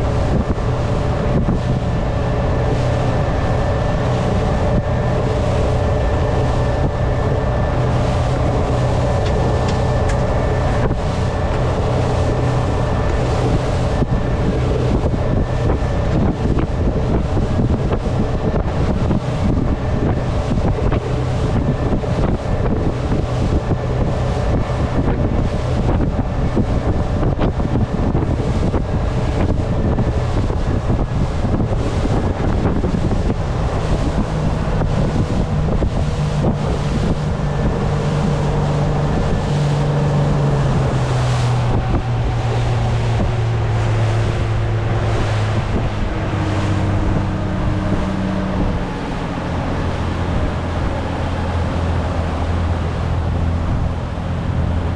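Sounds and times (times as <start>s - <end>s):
rushing water: 0.0s - 54.9s
speedboat engine running: 0.0s - 54.9s
wind buffeting microphone: 0.0s - 54.9s.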